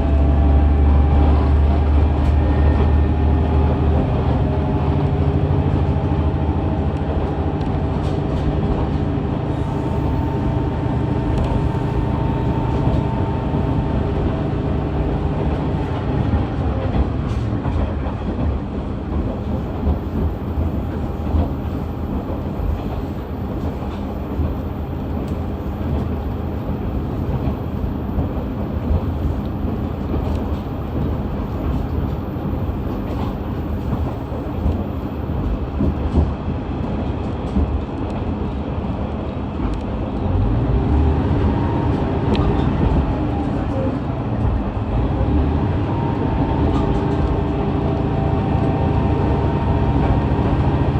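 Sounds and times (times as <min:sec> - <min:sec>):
diesel railcar engine hum and whine: 0:00.0 - 0:50.9
rail joint clicks: 0:00.0 - 0:50.9
wheel and track rumble: 0:00.0 - 0:50.9.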